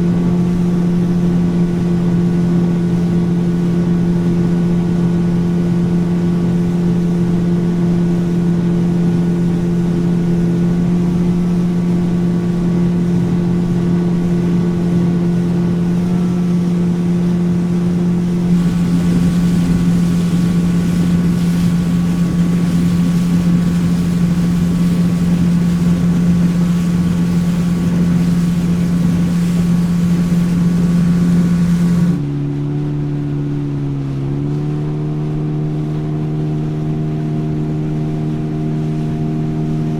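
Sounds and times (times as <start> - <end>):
water rushing: 0.0 - 32.2
motorboat engine running: 0.0 - 39.9
wind: 0.0 - 39.9.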